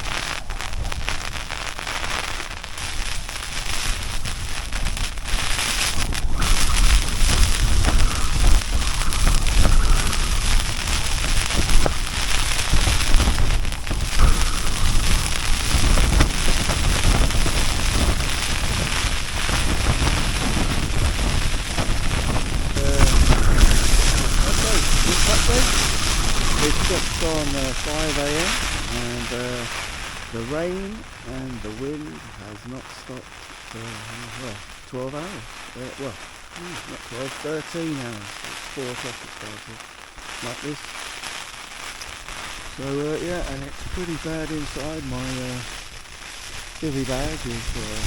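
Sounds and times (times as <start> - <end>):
low wind rumble: 0.0 - 40.8, 41.6 - 48.0
rain hitting tent fabric: 0.0 - 48.0.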